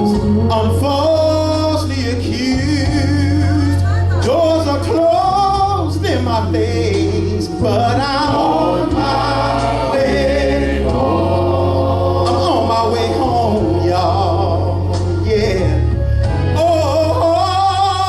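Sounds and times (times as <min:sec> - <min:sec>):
instrumental accompaniment: 0:00.0 - 0:18.0
voices singing gospel song: 0:00.0 - 0:18.0.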